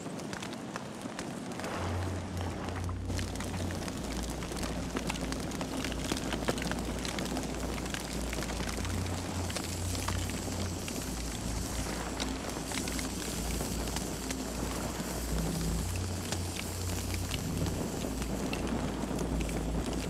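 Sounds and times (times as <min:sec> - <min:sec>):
burning wood popping and snapping: 0:00.0 - 0:20.0
fire low rumble: 0:00.0 - 0:20.0.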